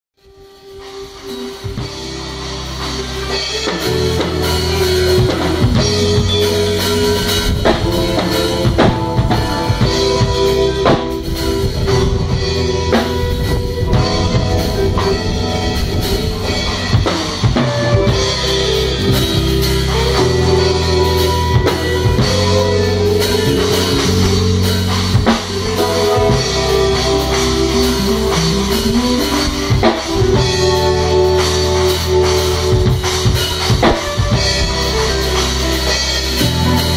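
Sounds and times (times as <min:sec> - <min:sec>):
drum kit groove: 0:00.2 - 0:36.9
electronic keyboards: 0:00.2 - 0:36.9.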